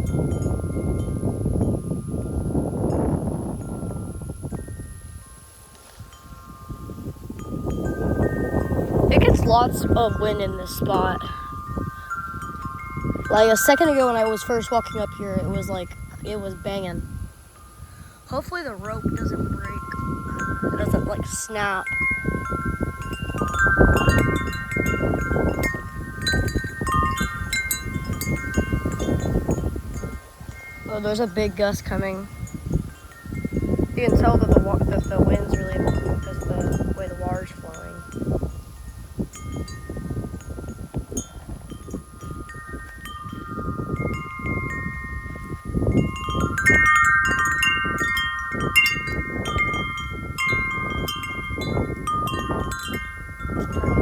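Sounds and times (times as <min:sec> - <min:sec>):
low rumble of wind: 0:00.0 - 0:54.0
metal tube wind chime ringing: 0:00.0 - 0:54.0.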